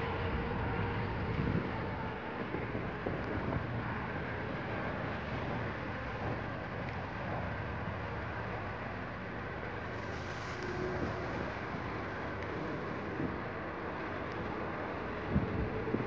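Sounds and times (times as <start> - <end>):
jet engines at taxi power: 0.0 - 16.0
wind on microphone: 0.0 - 16.0.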